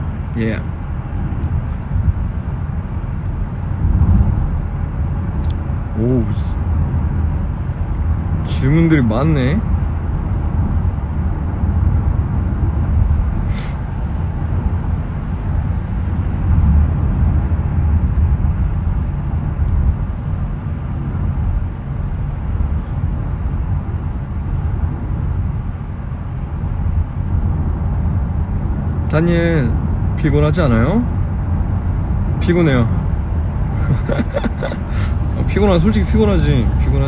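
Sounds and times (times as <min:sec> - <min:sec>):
car cabin road rumble: 0:00.0 - 0:37.0.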